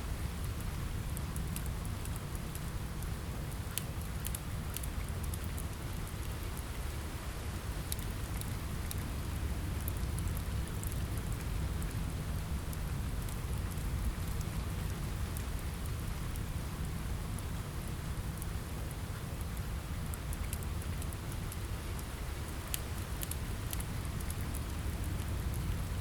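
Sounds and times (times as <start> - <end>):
steady rain: 0.0 - 26.0
wood fire crackling: 0.2 - 7.0, 7.6 - 26.0.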